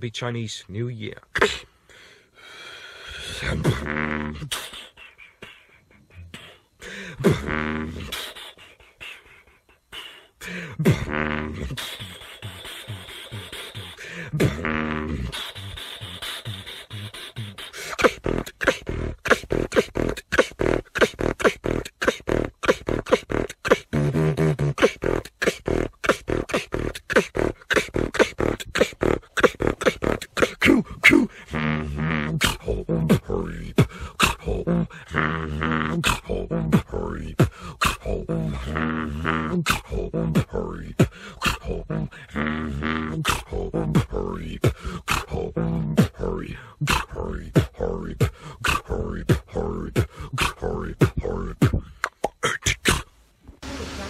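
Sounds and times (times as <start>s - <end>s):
vocal beatbox: 3.1s - 53.1s.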